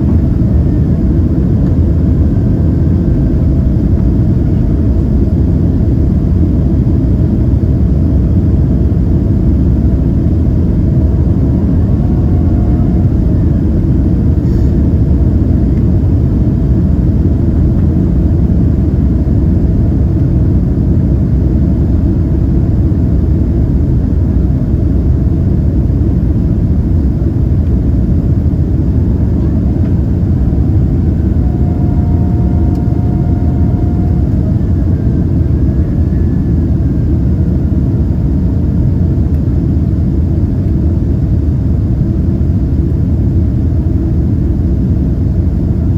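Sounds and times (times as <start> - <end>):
faint whining tones: 0.0 - 41.3
aircraft engine and airflow rumble: 0.0 - 45.9.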